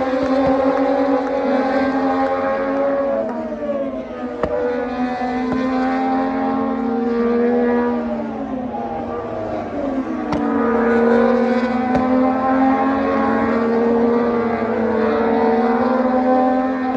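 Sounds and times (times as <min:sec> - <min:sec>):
race motorcycle engines: 0:00.0 - 0:16.9.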